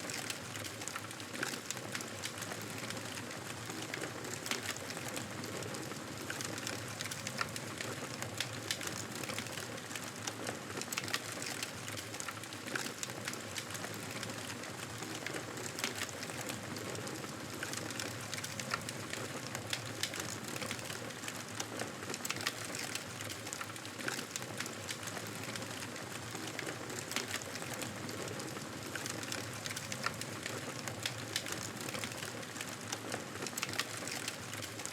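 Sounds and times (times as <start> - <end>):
burning wood crackling and popping: 6.2 - 34.9.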